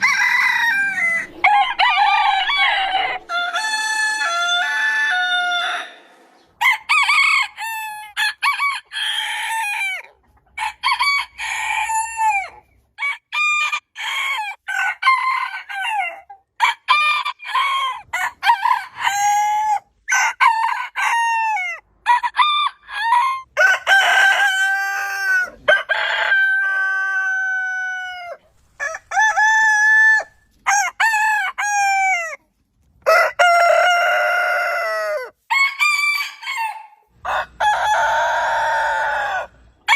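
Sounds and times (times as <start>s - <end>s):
roosters crowing: 0.0s - 32.4s, 33.0s - 39.9s.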